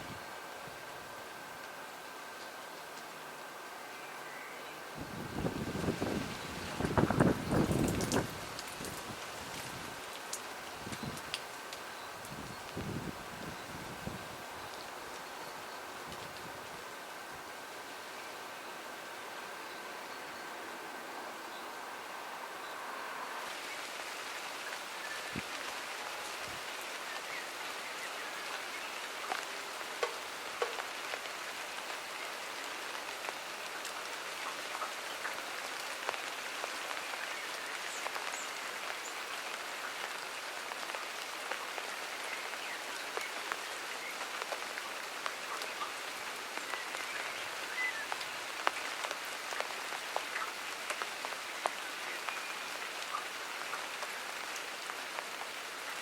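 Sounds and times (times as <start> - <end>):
steady rain falling: 0.0 - 56.0
raindrops ticking close by: 0.3 - 20.5, 23.3 - 56.0.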